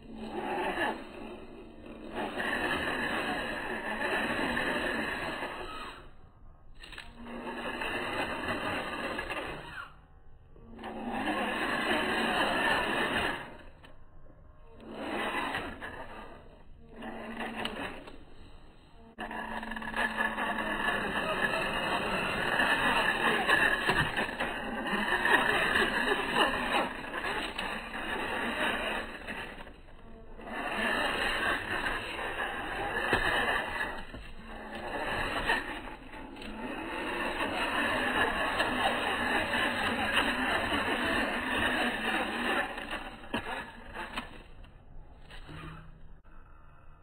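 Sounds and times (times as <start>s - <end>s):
tyres working over rocks: 0.0s - 6.1s, 6.9s - 9.8s, 10.8s - 13.7s, 14.7s - 18.4s, 19.0s - 44.6s
electric motor and gears whirring: 0.0s - 46.3s.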